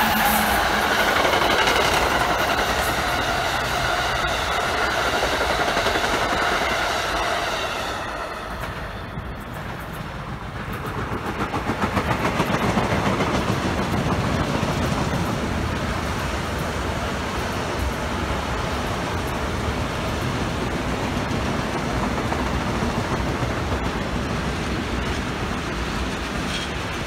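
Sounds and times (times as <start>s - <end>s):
train wheels clicking over rail joints: 0.0s - 7.6s, 8.4s - 27.0s
train coaches rolling past: 0.0s - 27.0s.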